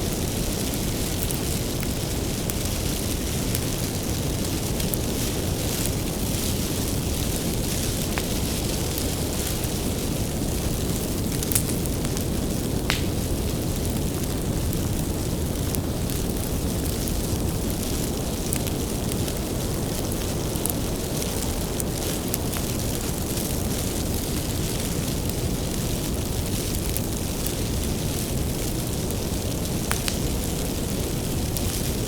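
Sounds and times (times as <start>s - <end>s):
firewood crackling and popping: 0.0s - 32.0s
flames rushing: 0.0s - 32.0s.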